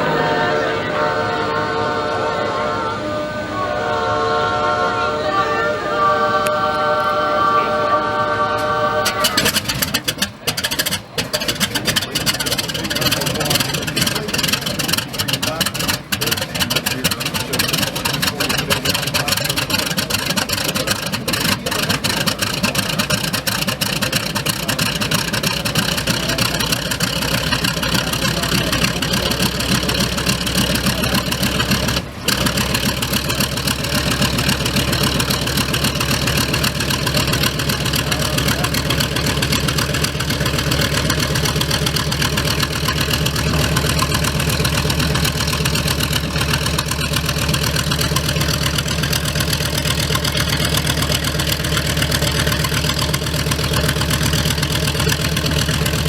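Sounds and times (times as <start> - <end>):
piston aircraft engine running: 0.0 - 56.0.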